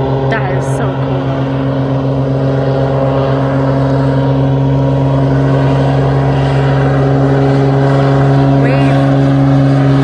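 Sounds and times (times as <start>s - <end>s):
propeller airplane engine droning: 0.0s - 10.0s.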